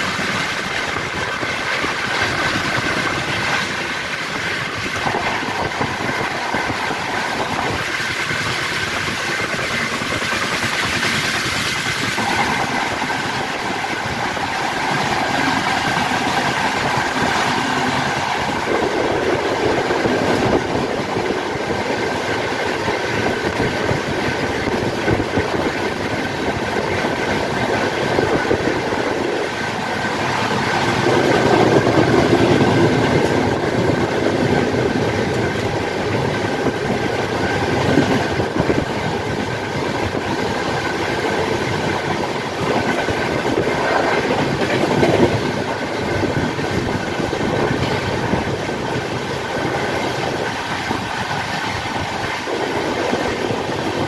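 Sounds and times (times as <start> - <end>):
rushing air: 0.0 - 54.0
train wheels clattering on rails: 0.0 - 54.0.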